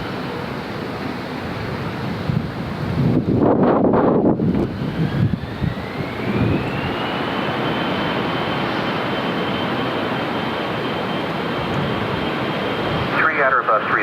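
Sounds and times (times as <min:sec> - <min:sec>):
jet engines with turbine whine: 0:00.0 - 0:14.0.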